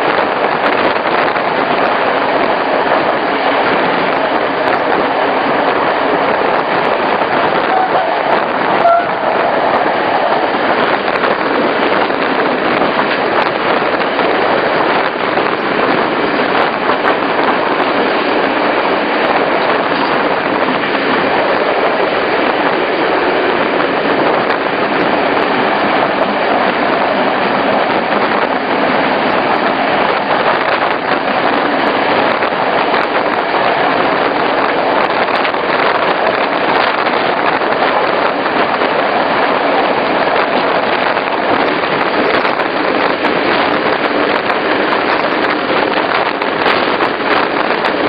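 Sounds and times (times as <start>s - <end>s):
train wheels on rails: 0.0s - 48.0s.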